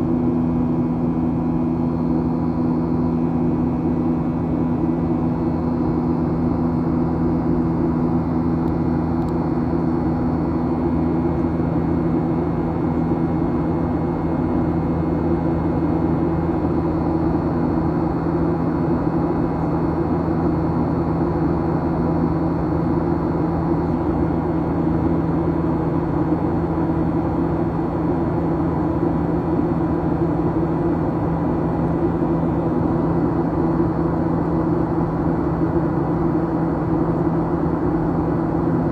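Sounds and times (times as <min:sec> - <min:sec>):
low jet engine hum: 0:00.0 - 0:38.9.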